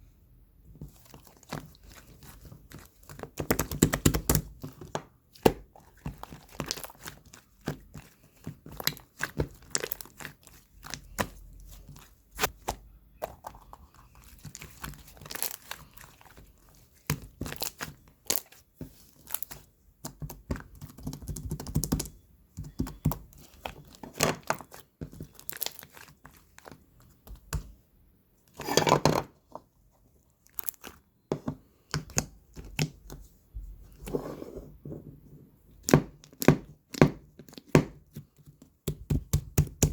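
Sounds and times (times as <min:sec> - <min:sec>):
crackling and crinkling handling: 0:00.7 - 0:22.0, 0:22.6 - 0:27.8, 0:28.4 - 0:34.1.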